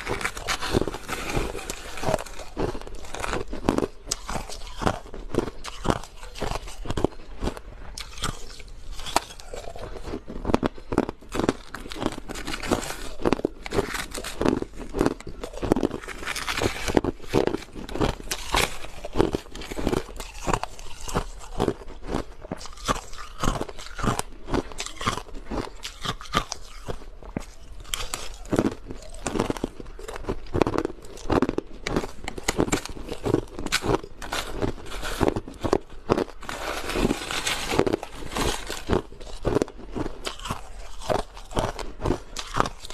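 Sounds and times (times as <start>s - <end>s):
crushed ice crunching: 0.0s - 42.9s.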